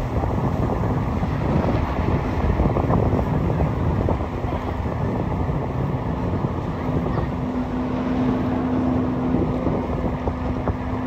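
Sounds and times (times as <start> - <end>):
boat engine running: 0.0 - 11.0
wind noise on microphone: 0.0 - 11.0.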